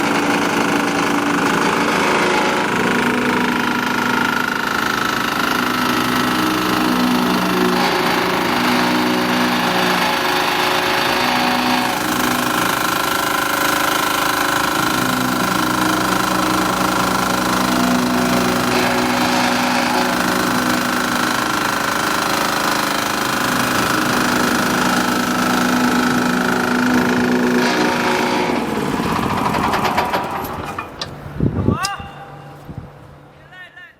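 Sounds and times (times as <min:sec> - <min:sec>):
road roller vibrating drone: 0:00.0 - 0:31.7.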